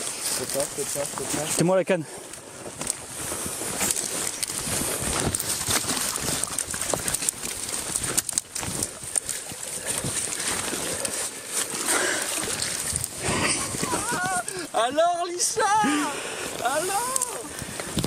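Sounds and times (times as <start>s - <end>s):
dry branches crackling: 0.0s - 18.0s
water splashing and sloshing: 0.0s - 18.0s.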